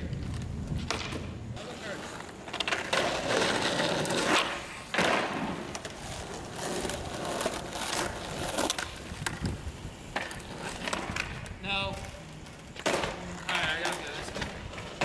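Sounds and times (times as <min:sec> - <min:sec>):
skateboard clack: 0:00.0 - 0:15.0
skateboard wheels rolling on asphalt: 0:00.0 - 0:15.0.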